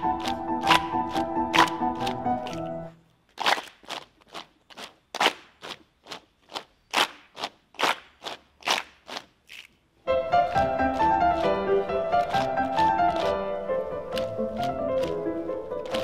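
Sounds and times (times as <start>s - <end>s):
body percussion hand strokes: 0.0s - 2.8s, 3.4s - 13.4s, 14.1s - 16.0s.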